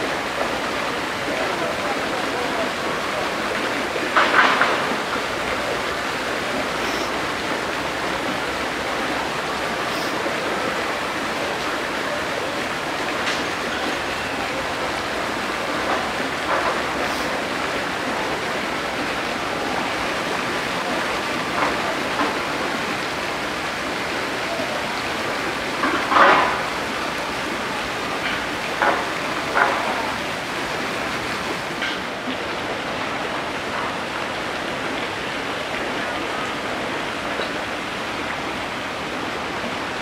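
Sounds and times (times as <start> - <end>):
running water rushing: 0.0 - 40.0.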